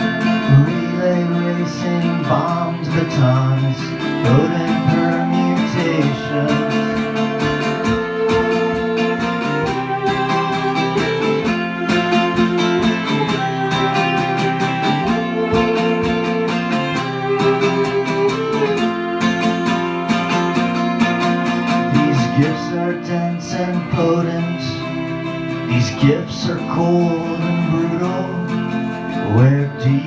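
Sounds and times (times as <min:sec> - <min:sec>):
acoustic guitar picking: 0:00.0 - 0:30.0
viola playing sustained notes: 0:00.0 - 0:30.0.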